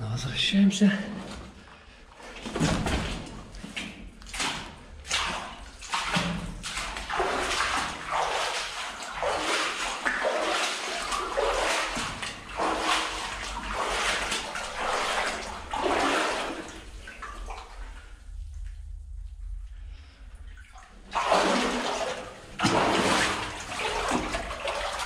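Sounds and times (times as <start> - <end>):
footsteps splashing through shallow water: 2.2 - 18.2, 20.5 - 25.0.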